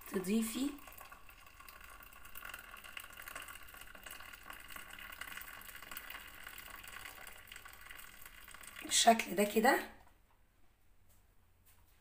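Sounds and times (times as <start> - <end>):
water pouring into cup: 0.0 - 9.6.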